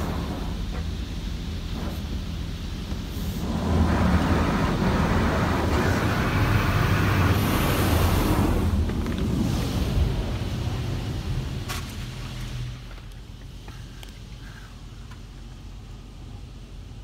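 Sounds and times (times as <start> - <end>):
water jets drumming on car: 0.0 - 17.0.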